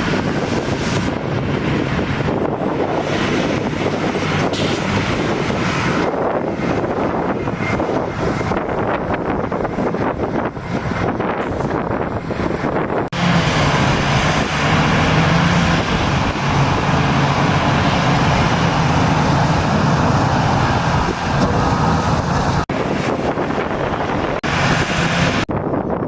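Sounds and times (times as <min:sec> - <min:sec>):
heavy machinery engine running: 0:00.0 - 0:25.8
wind buffeting microphone: 0:00.0 - 0:26.0.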